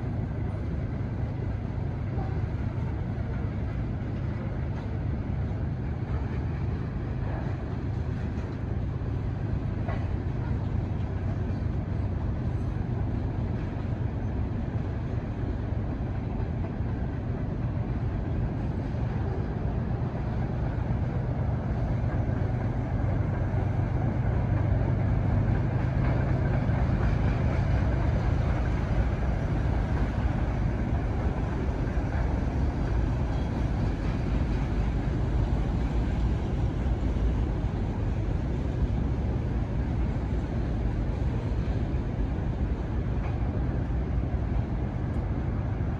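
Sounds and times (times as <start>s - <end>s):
freight train cars rumbling: 0.0s - 45.9s.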